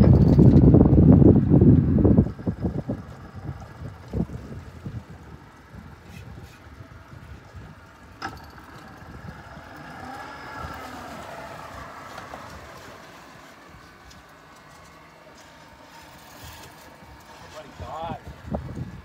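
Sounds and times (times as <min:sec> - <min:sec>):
wind buffeting microphone: 0:00.0 - 0:15.9, 0:16.5 - 0:19.0.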